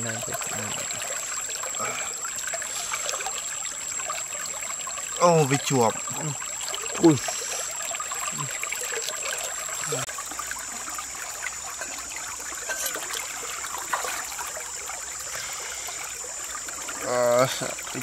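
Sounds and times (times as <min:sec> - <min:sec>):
stream water running: 0:00.0 - 0:18.0.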